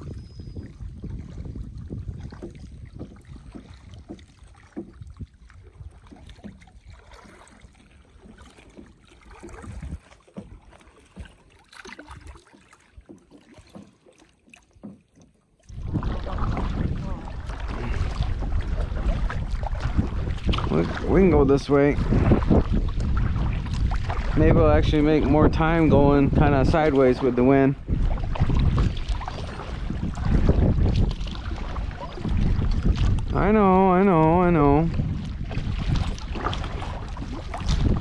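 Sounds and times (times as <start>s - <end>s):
wind buffeting the microphone: 0.0s - 11.3s, 15.7s - 38.0s
water lapping around a kayak: 0.0s - 38.0s.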